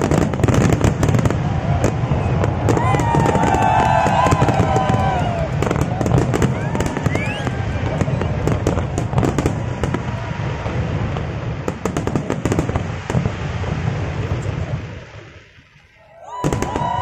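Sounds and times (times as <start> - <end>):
crowd cheering: 0.0 - 12.7, 16.0 - 17.0
fireworks bangs and crackles: 0.0 - 17.0.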